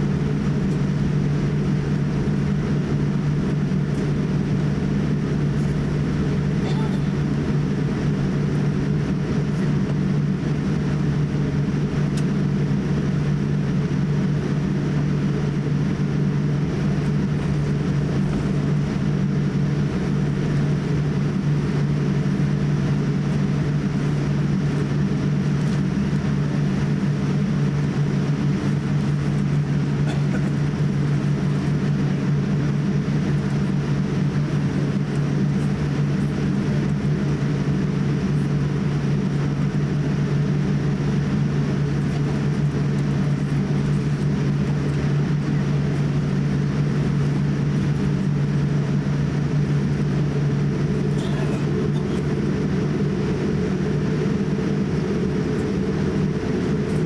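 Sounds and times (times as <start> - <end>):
airplane cabin hum: 0.0 - 57.0.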